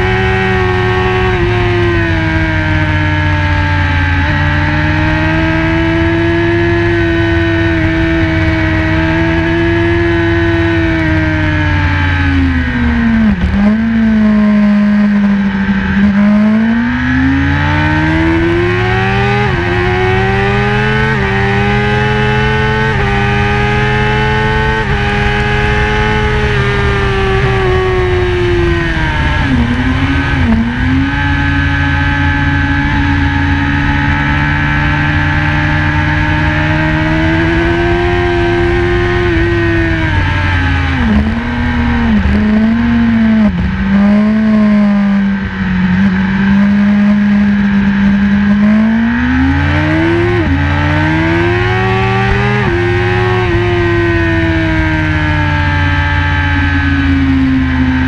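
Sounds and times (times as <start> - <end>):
motorcycle engine at race pace: 0.0 - 58.0.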